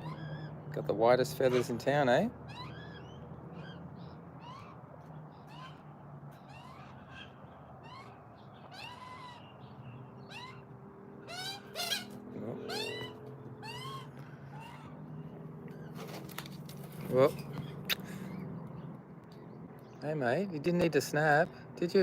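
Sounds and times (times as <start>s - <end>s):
birds giving squeaky meow-like calls: 0.0s - 18.9s.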